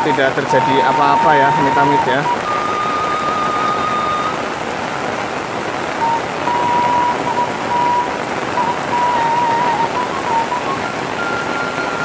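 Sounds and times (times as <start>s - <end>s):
thin high tone: 0.0s - 4.5s, 6.0s - 12.0s
heavy rain on road and plants: 0.0s - 12.0s.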